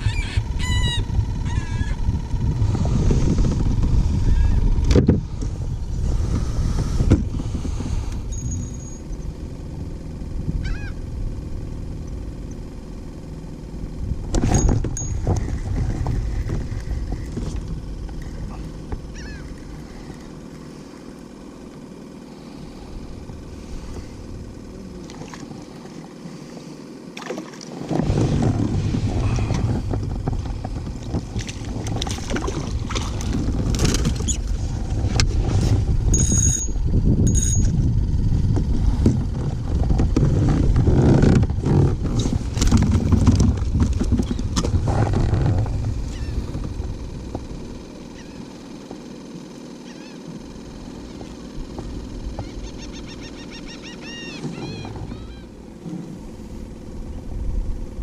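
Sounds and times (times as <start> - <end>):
water around a kayak: 0.0 - 58.0
wind: 0.0 - 58.0.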